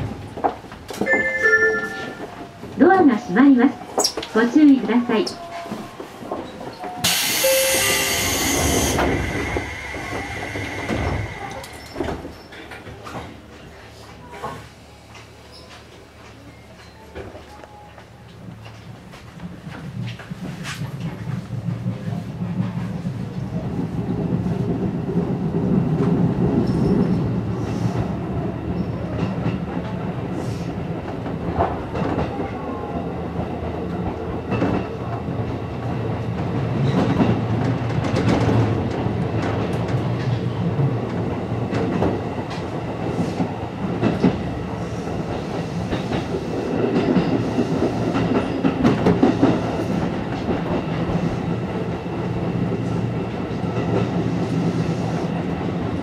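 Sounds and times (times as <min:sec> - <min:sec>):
electric train low rumble: 0:00.0 - 0:56.0.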